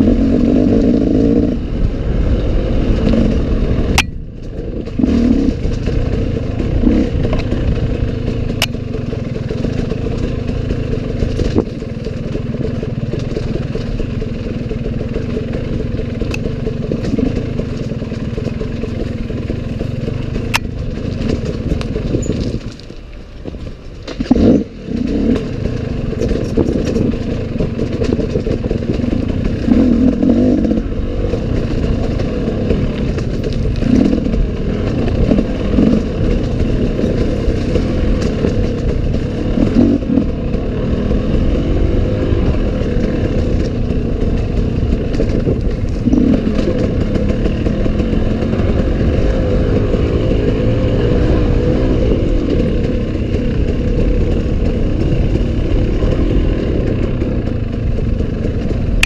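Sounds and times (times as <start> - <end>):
dirt bike engine revving: 0.0 - 22.6, 24.2 - 59.0.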